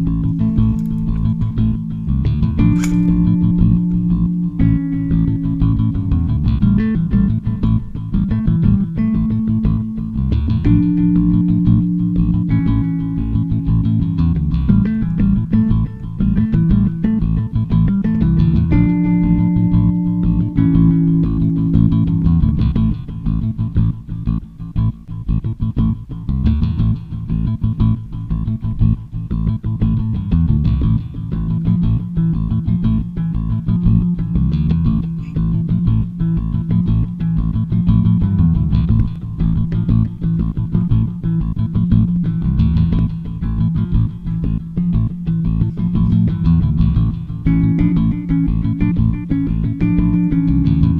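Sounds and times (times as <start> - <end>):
rock music with guitars: 0.0 - 50.9.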